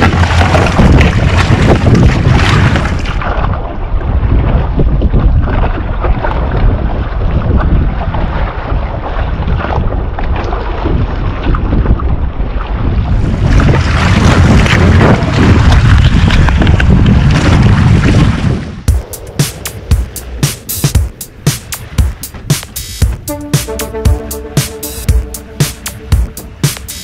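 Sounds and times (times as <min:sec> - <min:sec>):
wind buffeting microphone: 0:00.0 - 0:23.3
water splashing along canoe hull: 0:00.0 - 0:27.0.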